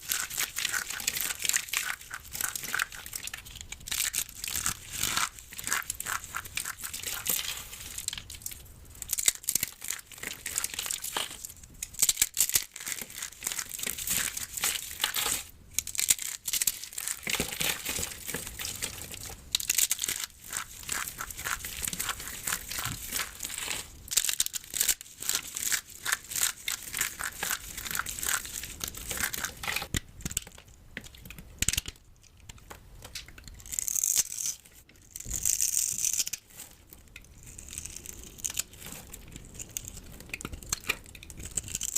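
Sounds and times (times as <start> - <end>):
soap crackling and crunching: 0.0 - 41.9.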